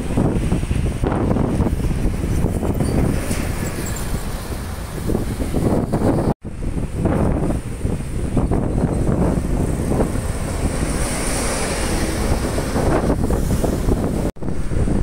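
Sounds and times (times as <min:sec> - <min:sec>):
bus driving past: 0:00.0 - 0:15.0
road traffic: 0:00.0 - 0:15.0
wind buffeting microphone: 0:00.0 - 0:15.0.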